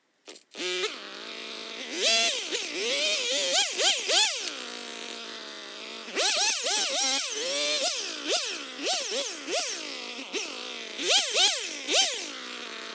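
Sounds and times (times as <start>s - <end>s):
chainsaw idling and revving: 0.3s - 12.9s.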